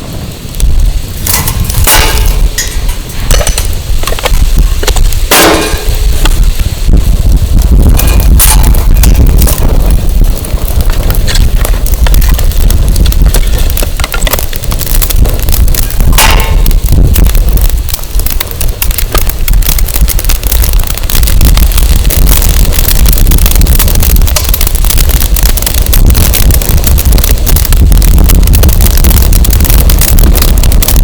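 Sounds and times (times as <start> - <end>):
wind buffeting microphone: 0.0 - 31.0
wood fire crackling and popping: 0.0 - 31.0.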